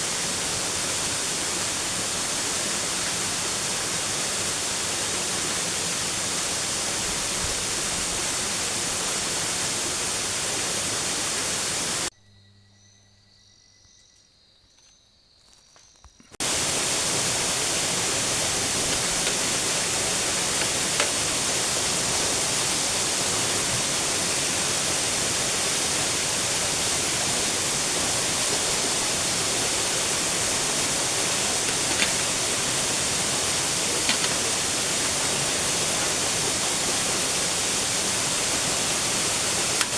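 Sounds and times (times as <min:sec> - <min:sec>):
waterfall rushing: 0:00.0 - 0:12.1, 0:16.4 - 0:39.9.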